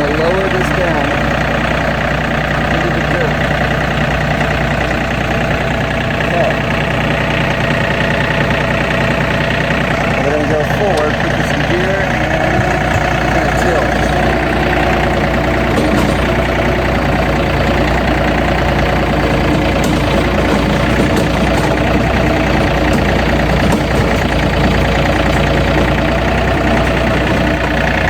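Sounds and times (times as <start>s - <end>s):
rotary tiller in dirt: 0.0s - 28.0s
tractor engine running: 0.0s - 28.0s.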